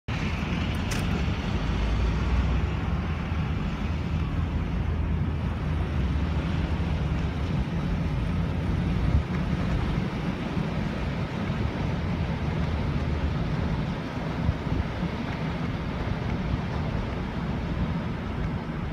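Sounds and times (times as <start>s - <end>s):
car interior road rumble: 0.1s - 18.9s.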